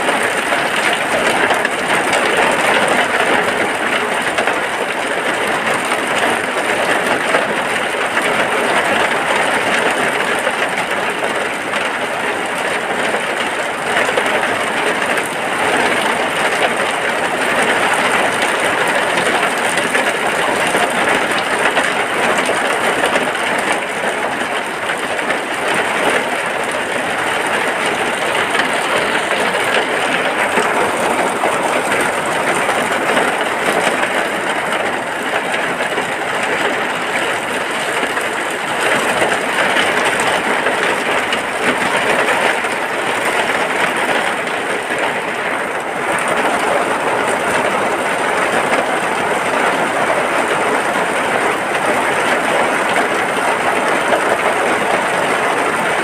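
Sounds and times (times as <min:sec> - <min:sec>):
rain on a hut roof: 0:00.0 - 0:56.0.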